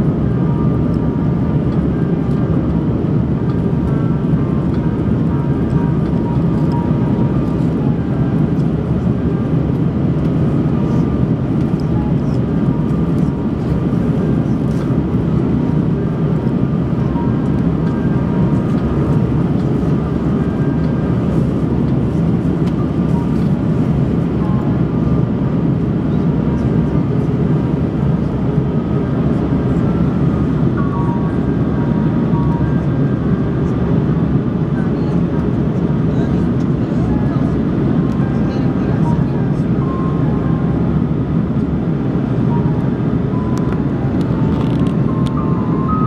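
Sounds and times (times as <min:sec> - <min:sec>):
airliner cabin engine rumble: 0:00.0 - 0:46.0.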